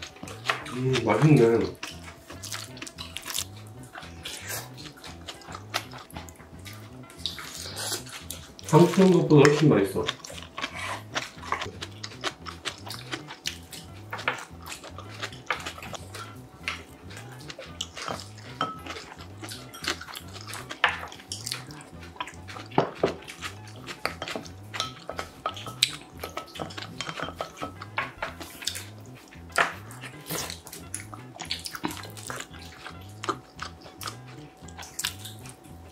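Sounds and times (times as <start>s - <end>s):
soft background music: 0.0s - 35.9s
wet eating sounds: 0.0s - 35.9s.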